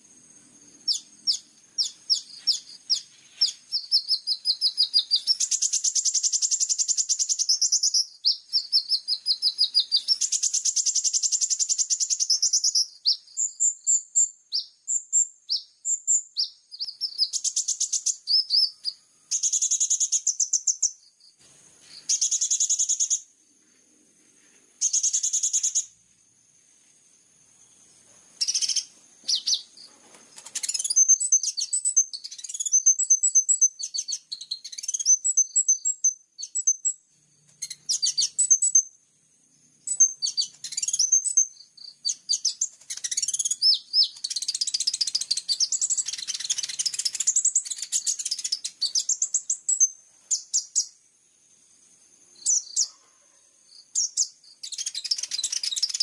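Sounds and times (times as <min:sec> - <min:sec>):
songbird chirping and trilling: 0:00.0 - 0:26.1, 0:27.3 - 0:56.0.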